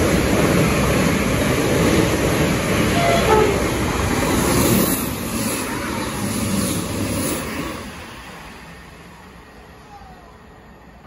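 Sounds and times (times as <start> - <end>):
trains passing: 0.0 - 11.0.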